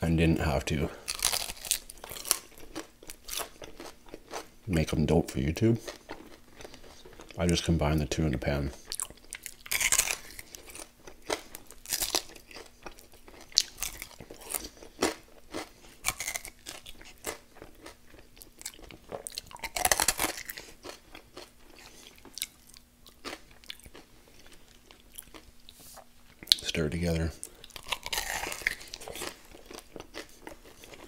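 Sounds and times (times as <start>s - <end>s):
chewing crunchy chicken wings: 0.1s - 31.0s.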